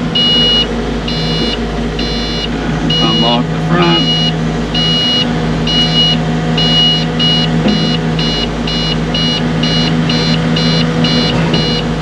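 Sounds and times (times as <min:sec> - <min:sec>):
diesel engine running: 0:00.0 - 0:12.0
electronic warning beeper: 0:00.1 - 0:11.9.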